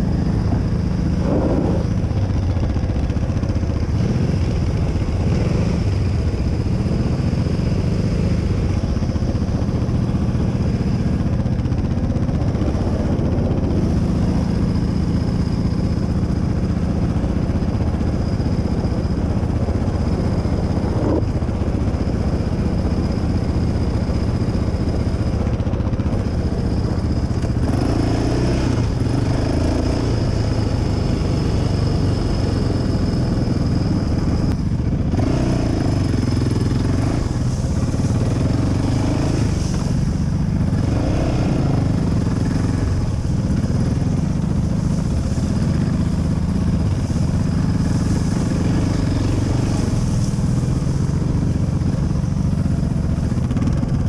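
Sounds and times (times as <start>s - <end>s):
quad bike engine revving: 0.0s - 54.0s.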